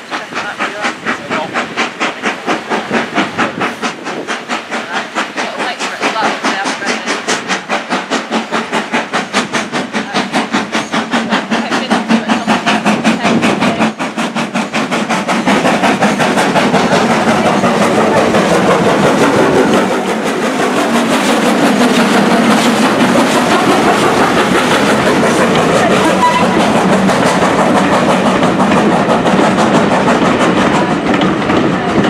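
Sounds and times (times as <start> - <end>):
rush of steam and running noise: 0.0 - 32.0
steam locomotive chuffing: 0.0 - 32.0.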